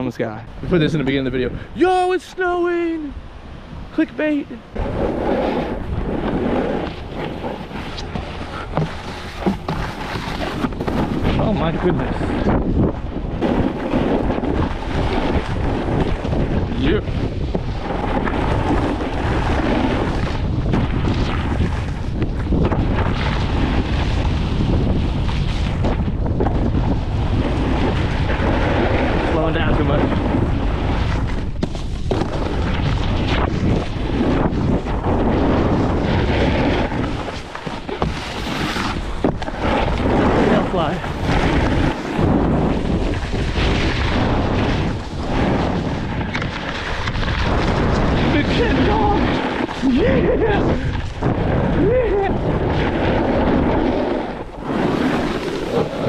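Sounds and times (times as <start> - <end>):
wind buffeting microphone: 0.0 - 56.0
snowboard scraping icy snow: 4.0 - 56.0.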